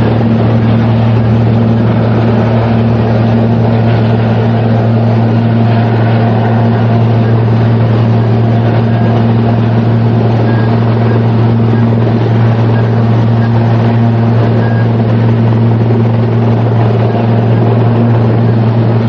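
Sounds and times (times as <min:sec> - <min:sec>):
machine humming: 0:00.0 - 0:19.0.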